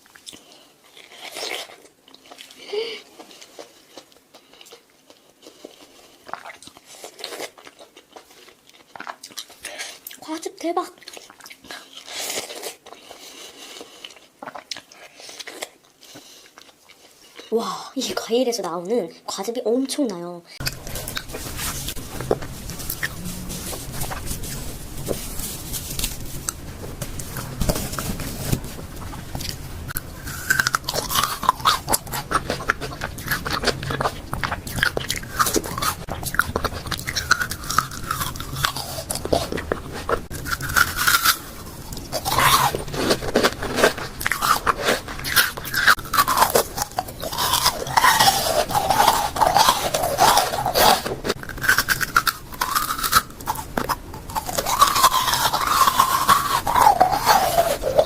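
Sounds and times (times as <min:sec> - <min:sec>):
crunching and chewing fruit: 0:00.0 - 0:18.2, 0:19.4 - 0:58.0.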